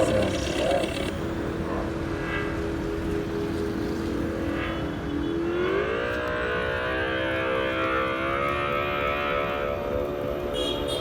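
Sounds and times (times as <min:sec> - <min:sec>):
electric scooter motor hum: 0:00.0 - 0:10.3.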